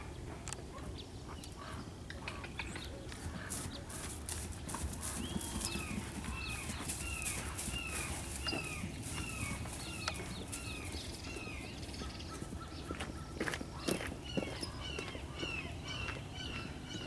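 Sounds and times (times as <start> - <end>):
bird calling: 0.7 - 17.0.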